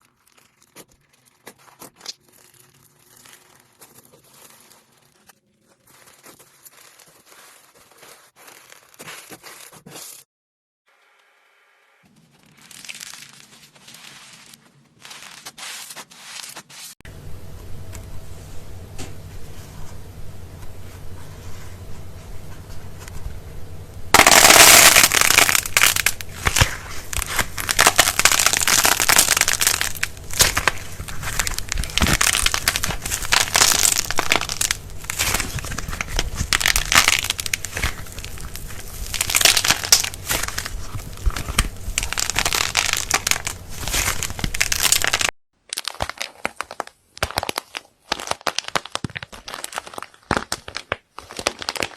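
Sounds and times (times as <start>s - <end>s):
dry material being crushed: 0.0s - 10.2s, 12.1s - 17.0s, 21.0s - 51.9s.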